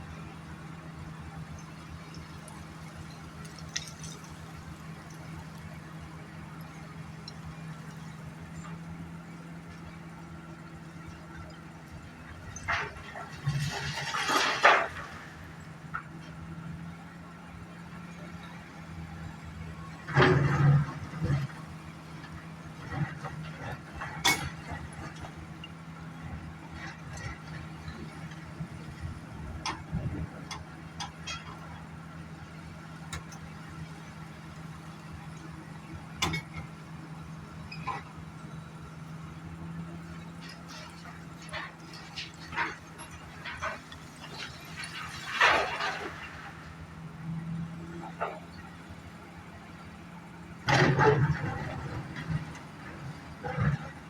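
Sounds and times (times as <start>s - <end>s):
heavy diesel engine humming: 0.0s - 54.0s.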